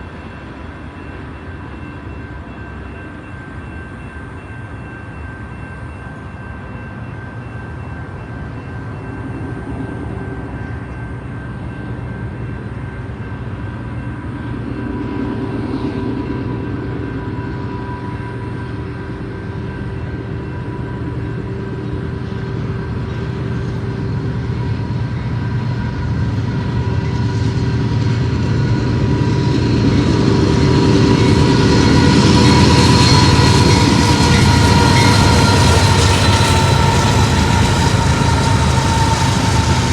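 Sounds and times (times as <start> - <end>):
rail noise: 0.0 - 39.9
train engine hum: 0.0 - 39.9.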